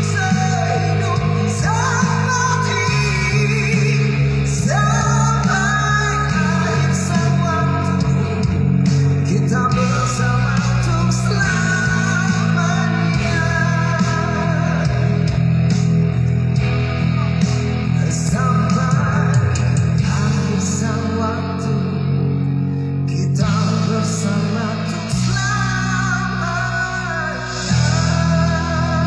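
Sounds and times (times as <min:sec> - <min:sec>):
man singing into a microphone: 0:00.0 - 0:16.0, 0:17.0 - 0:29.0
guitar music: 0:00.0 - 0:29.0.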